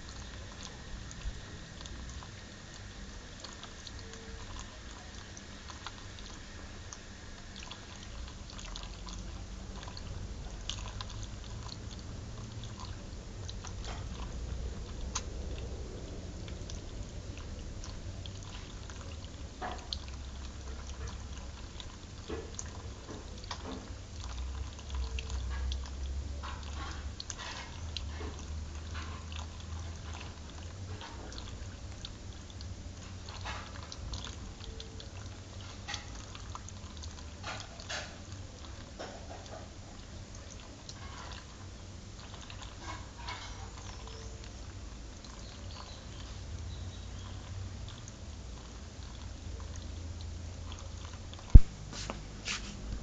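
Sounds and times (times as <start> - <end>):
shower water pouring and dripping: 0.0 - 53.0.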